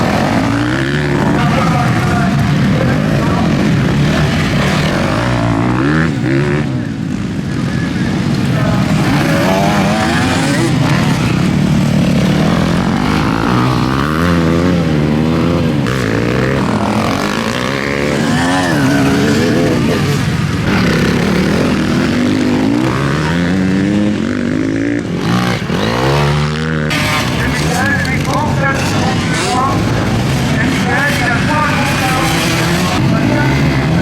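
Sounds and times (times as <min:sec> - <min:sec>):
motocross bikes revving: 0:00.0 - 0:34.0.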